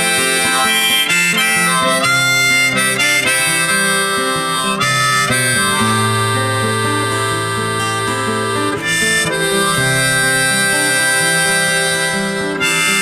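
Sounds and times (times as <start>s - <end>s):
guitar: 0.0s - 13.0s
harmonica melody: 0.0s - 13.0s.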